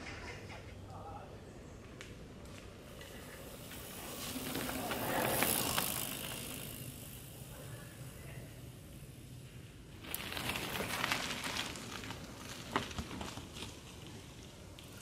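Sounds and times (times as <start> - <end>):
bike tyres crunching over stones: 2.0 - 15.0.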